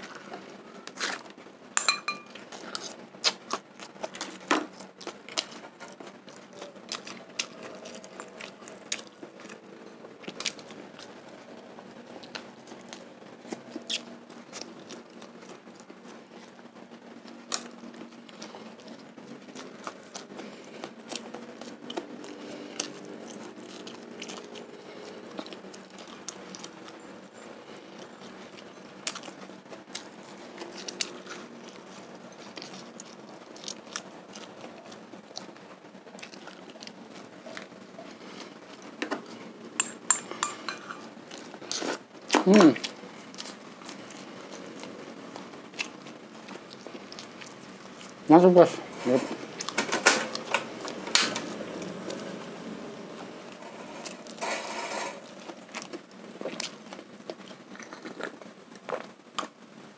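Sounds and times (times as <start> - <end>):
chewing and lip smacks: 2.3 - 27.0, 27.7 - 48.2, 55.4 - 59.6.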